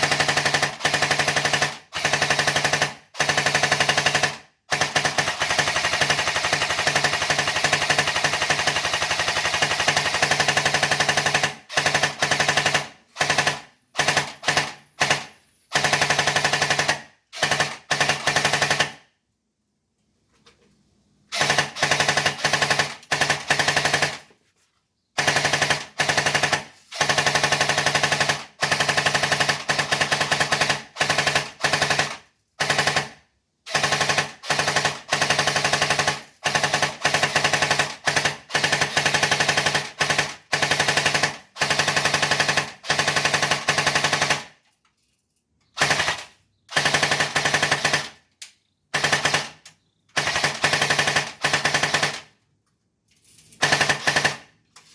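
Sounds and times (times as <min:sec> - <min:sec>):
airsoft gun firing full-auto: 0:00.0 - 0:19.1, 0:21.3 - 0:24.3, 0:25.2 - 0:44.6, 0:45.8 - 0:48.3, 0:48.9 - 0:52.4, 0:53.6 - 0:54.5.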